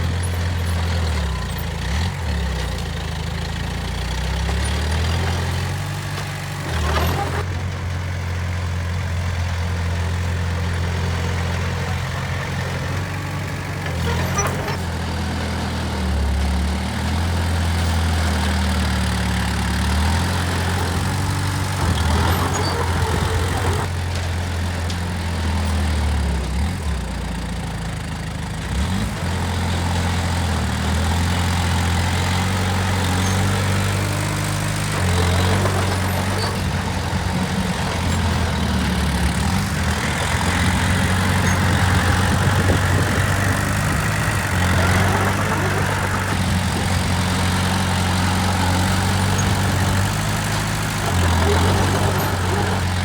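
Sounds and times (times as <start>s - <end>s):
heavy machinery diesel engine: 0.0s - 53.0s.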